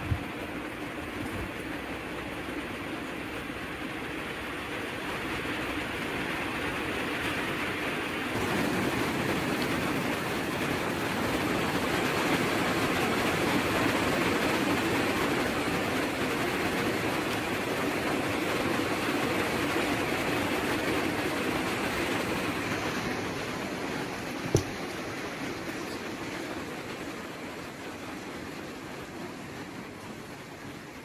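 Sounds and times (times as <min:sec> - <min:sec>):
steady rushing hiss and rumble: 0:00.0 - 0:31.0.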